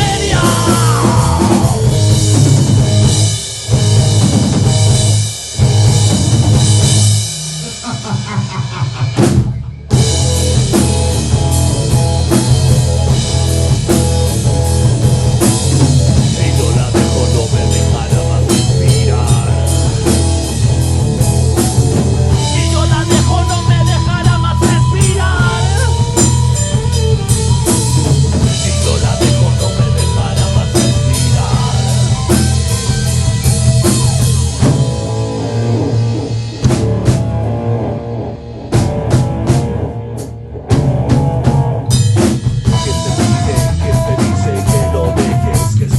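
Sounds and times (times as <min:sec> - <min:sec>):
drum kit hits: 0:00.0 - 0:45.9
electric guitar: 0:00.0 - 0:45.9
heavy bass: 0:00.0 - 0:45.9.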